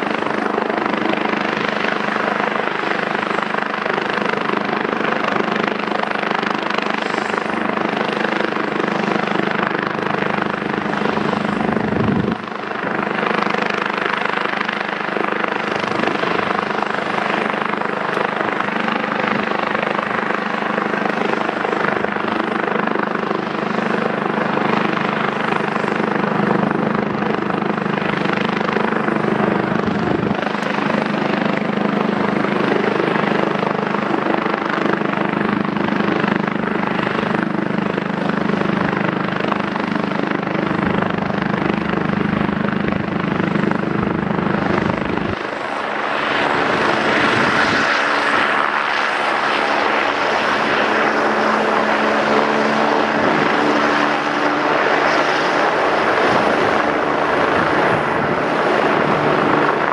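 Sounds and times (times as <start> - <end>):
helicopter rotor humming: 0.0 - 59.9
helicopter turbines whining: 0.0 - 59.9.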